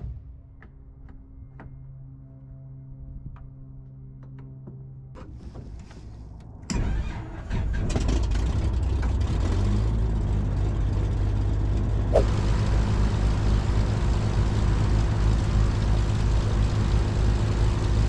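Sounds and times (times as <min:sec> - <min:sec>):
aircraft engine starting and running: 0:01.4 - 0:18.0.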